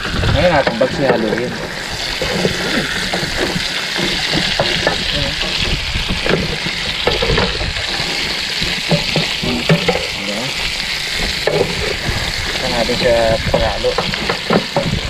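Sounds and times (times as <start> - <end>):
food sizzling in a frying pan: 0.0 - 15.0
wooden spatula scraping a pan: 0.0 - 15.0.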